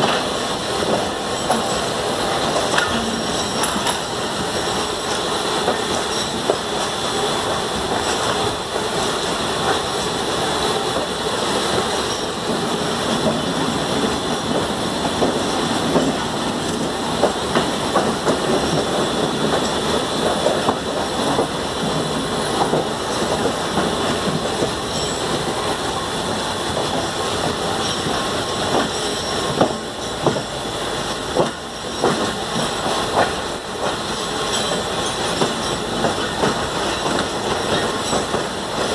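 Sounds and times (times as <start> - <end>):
wheels clattering over rail joints: 0.0 - 10.0, 10.9 - 38.9
train rushing running noise: 0.0 - 38.9.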